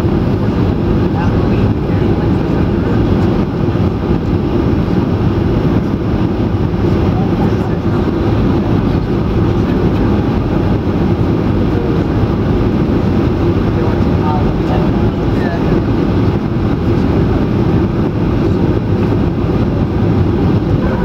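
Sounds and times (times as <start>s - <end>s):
jet cabin low roar: 0.0s - 21.0s.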